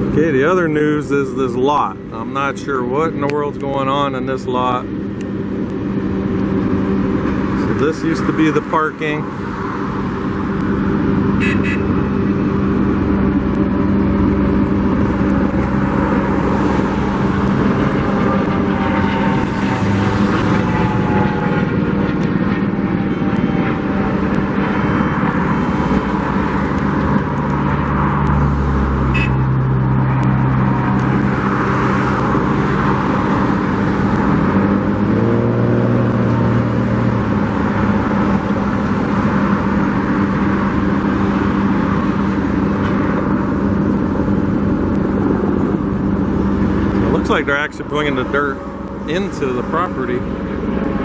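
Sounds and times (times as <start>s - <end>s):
vehicle engines running: 0.0s - 51.0s
engine revving: 5.9s - 51.0s.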